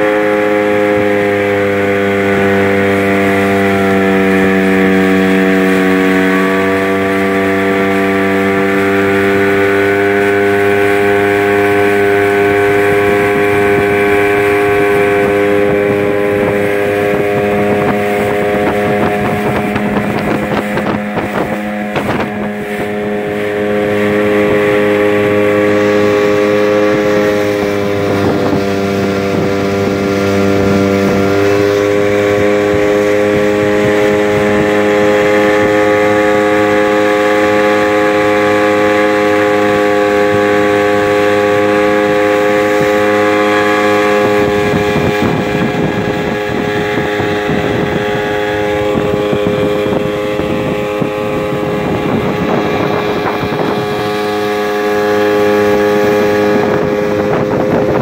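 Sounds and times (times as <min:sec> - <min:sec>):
outboard motor running: 0:00.0 - 0:58.0
water rushing past hull: 0:00.0 - 0:58.0
wind: 0:00.0 - 0:58.0.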